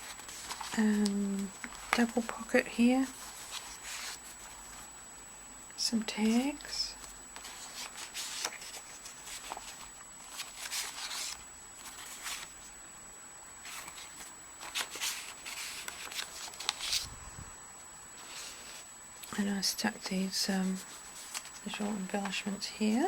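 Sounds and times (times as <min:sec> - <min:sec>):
paper rustling: 0:00.0 - 0:04.9, 0:06.1 - 0:12.7, 0:13.6 - 0:17.1, 0:18.2 - 0:23.0.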